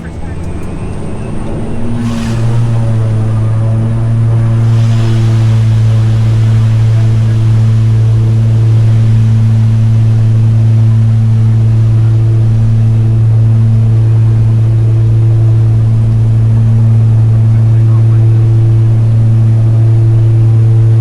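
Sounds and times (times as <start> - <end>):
airplane engines humming in cabin: 0.0 - 21.0.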